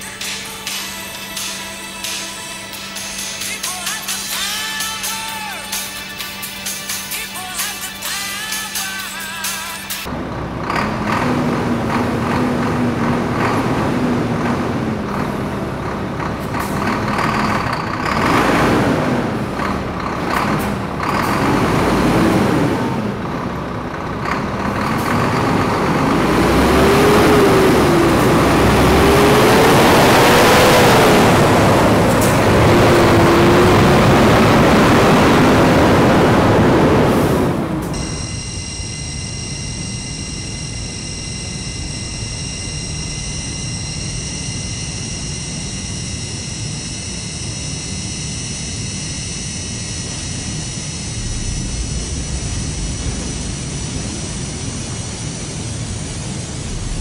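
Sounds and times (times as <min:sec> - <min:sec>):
diesel engine revving: 0:10.0 - 0:57.0.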